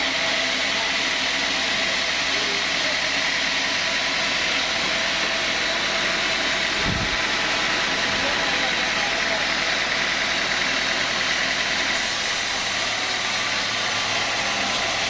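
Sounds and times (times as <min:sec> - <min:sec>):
sawmill saw running: 0:00.0 - 0:15.0.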